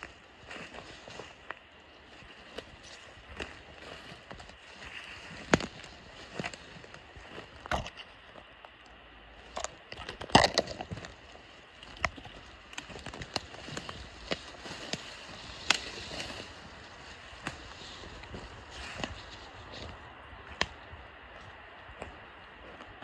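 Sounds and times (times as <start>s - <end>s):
twigs cracking and snapping: 0.0s - 22.8s
footsteps through undergrowth: 0.0s - 23.0s.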